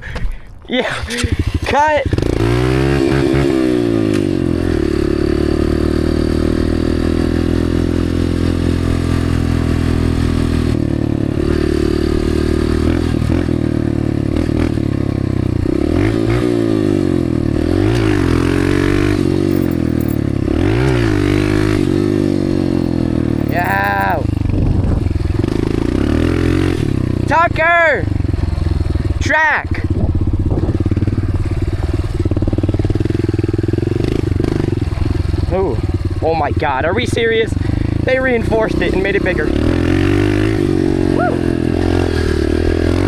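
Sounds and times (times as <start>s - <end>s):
dirt bike engine revving: 0.9s - 43.0s.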